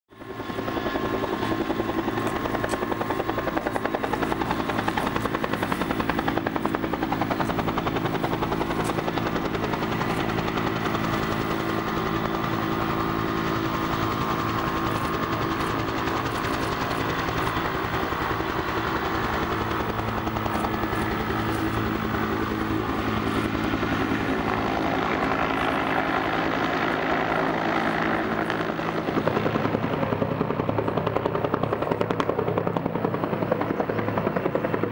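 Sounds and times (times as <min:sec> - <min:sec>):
helicopter engine drone: 0:00.1 - 0:34.9
helicopter rotor blades beating: 0:00.2 - 0:34.9.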